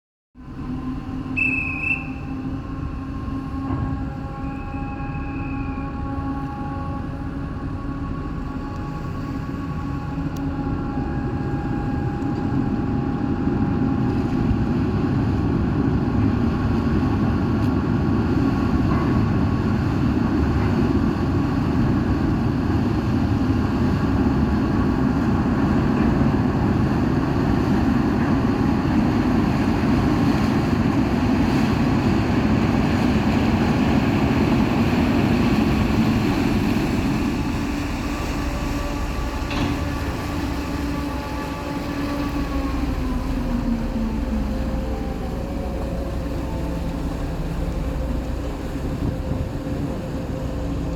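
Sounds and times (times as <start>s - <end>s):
ferry engines rumbling: 0.4s - 50.9s.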